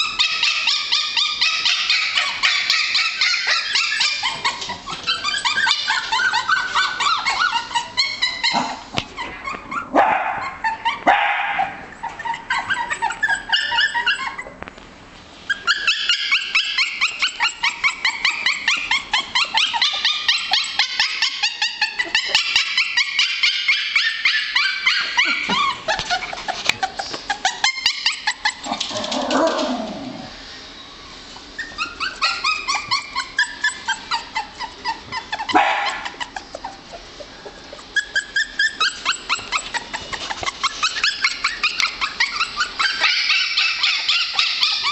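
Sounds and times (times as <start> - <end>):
puppies yipping and barking: 0.0 - 44.9.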